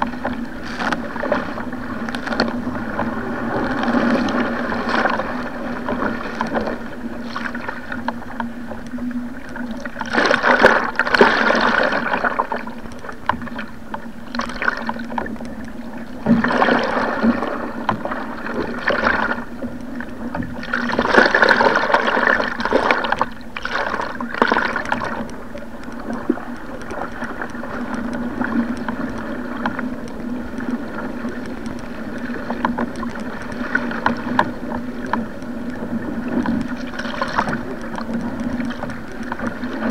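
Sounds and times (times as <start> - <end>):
sea water rushing and splashing: 0.0 - 39.9.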